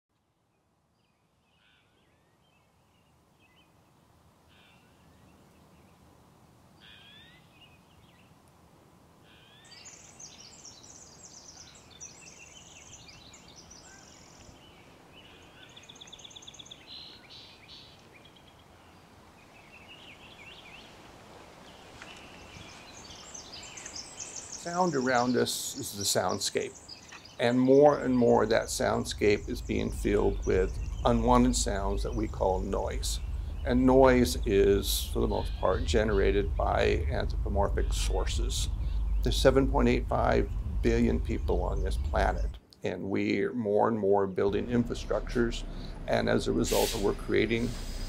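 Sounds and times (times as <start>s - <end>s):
songbirds chirping and trilling: 0.5s - 6.1s, 6.8s - 8.4s, 9.2s - 48.0s.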